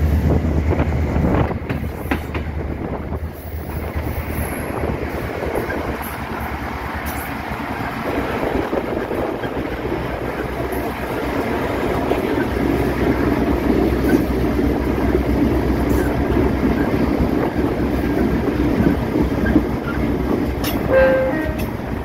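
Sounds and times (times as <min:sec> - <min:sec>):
diesel locomotive engine rumble: 0:00.0 - 0:22.0
train wheels on rails: 0:00.0 - 0:22.0.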